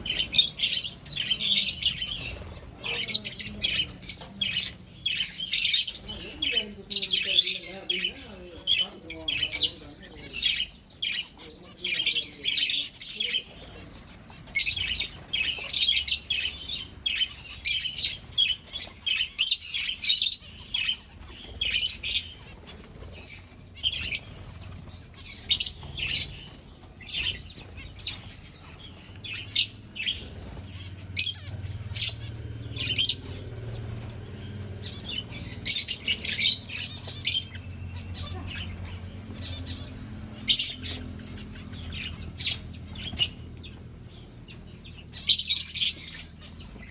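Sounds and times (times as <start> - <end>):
finches chirping: 0.0 - 46.9.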